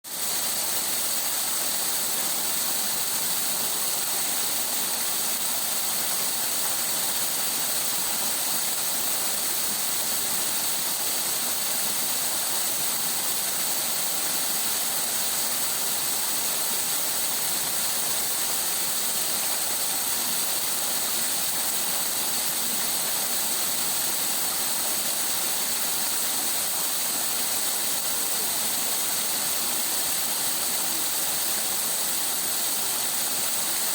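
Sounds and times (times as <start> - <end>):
water rushing over stones: 0.1 - 33.9.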